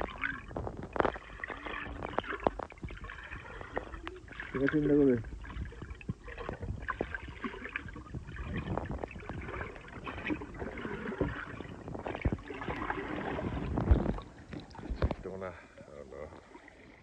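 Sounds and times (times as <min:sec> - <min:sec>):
clicks and knocks underwater: 0:00.0 - 0:17.0
water sloshing and gurgling: 0:00.0 - 0:17.0.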